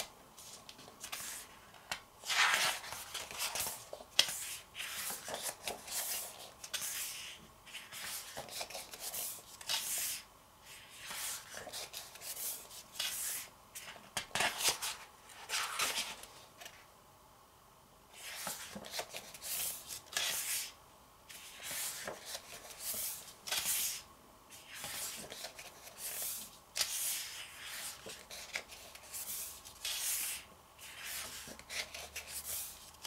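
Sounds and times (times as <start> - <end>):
paper pages turning: 0.0 - 16.8, 18.2 - 20.7, 21.3 - 33.0.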